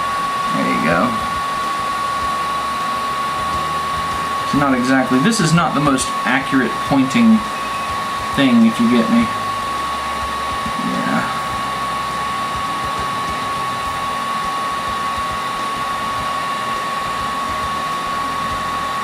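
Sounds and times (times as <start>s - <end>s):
heat gun blowing air: 0.0s - 19.0s.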